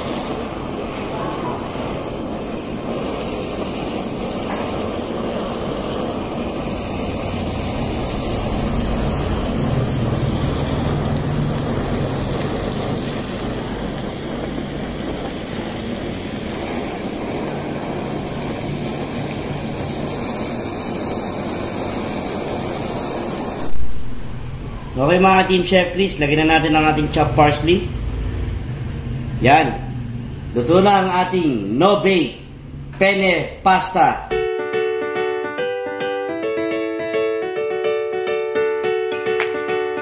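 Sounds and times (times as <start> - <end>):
blowtorch flame hissing: 0.0 - 34.1.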